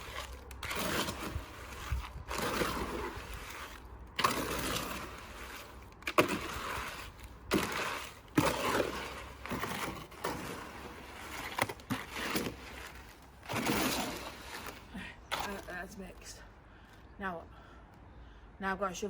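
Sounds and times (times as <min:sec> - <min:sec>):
wet cement being mixed: 0:00.0 - 0:16.2.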